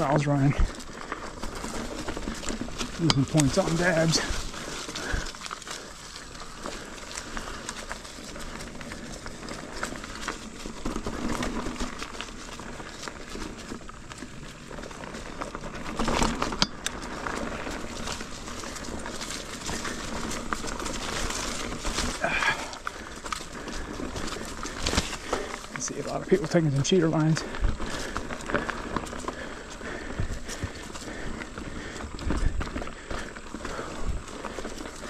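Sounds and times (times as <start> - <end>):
bike clatter: 0.0 - 35.0
bike tyres rolling over dirt: 0.0 - 35.0.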